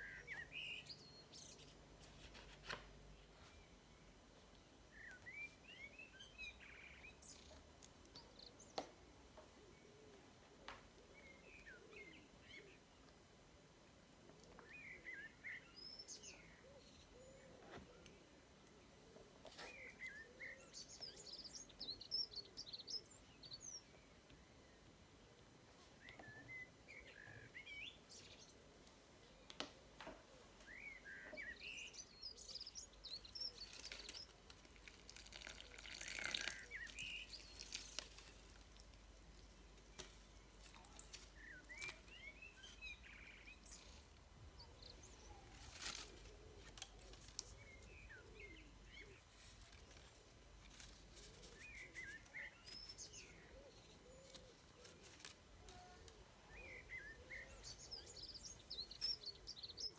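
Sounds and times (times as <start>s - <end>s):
small birds chirping: 0.0s - 13.2s, 14.3s - 59.9s.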